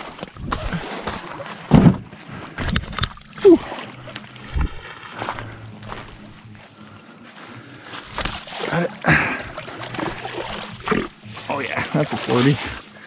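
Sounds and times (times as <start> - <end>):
water splashing: 0.0 - 5.6, 8.0 - 13.0.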